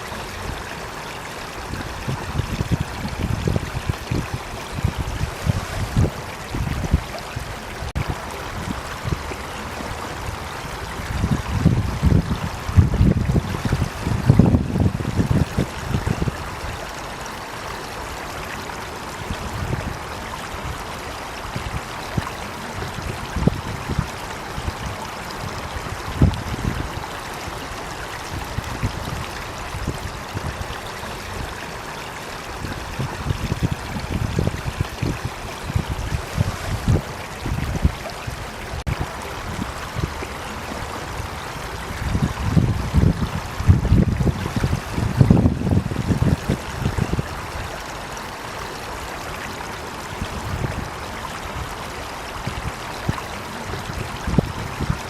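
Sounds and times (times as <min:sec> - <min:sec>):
stream water rushing and trickling: 0:00.0 - 0:55.0.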